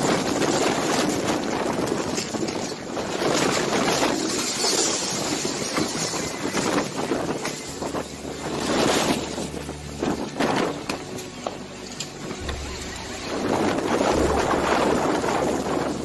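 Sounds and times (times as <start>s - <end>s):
plastic chairs clattering: 0.0s - 16.0s
strong wind gusting: 0.0s - 16.0s.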